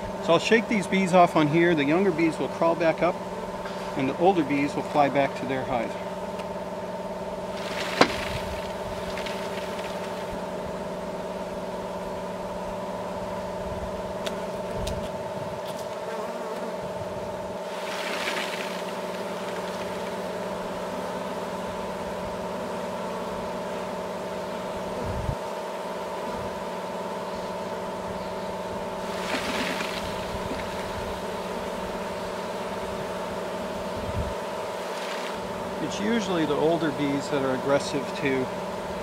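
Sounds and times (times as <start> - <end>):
bees humming: 0.0 - 39.0
bees rustling off frames: 0.2 - 11.7, 14.2 - 39.0.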